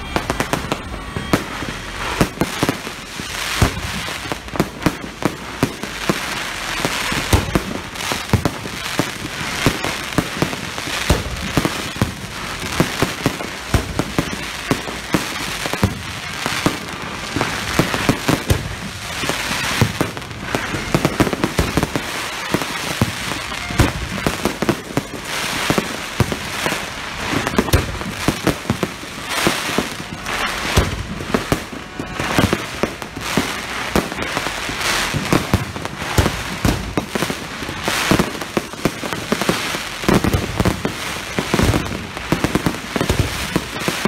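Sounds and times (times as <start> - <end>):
firework crackle: 0.0 - 44.0.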